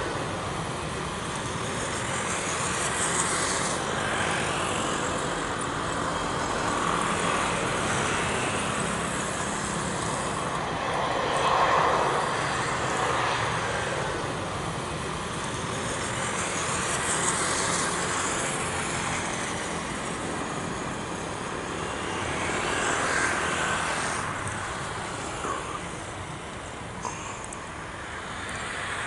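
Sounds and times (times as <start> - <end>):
rushing engine noise: 0.0 - 29.0.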